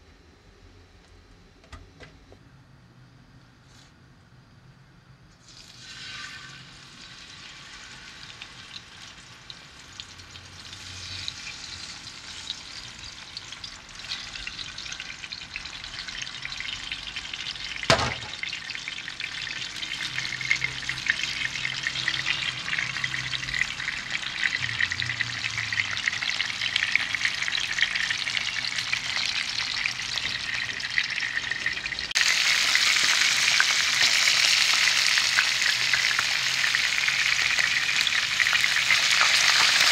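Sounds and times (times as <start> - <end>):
fish sizzling in oil: 5.4 - 39.9.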